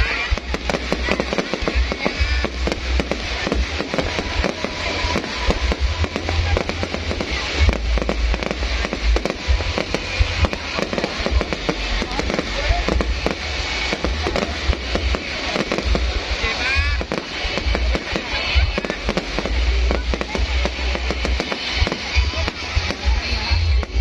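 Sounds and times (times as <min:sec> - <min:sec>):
fireworks cracks and bangs: 0:00.0 - 0:24.0
low booming: 0:00.0 - 0:24.0.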